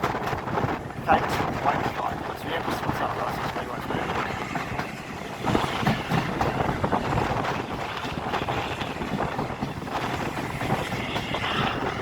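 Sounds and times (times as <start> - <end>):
train wheels on rails: 0.0 - 12.0
wind buffeting microphone: 0.0 - 12.0.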